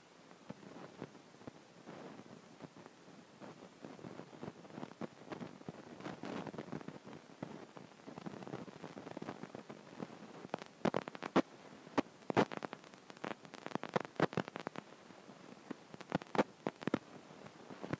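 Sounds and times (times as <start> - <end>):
faint rustling hiss: 0.0 - 17.9.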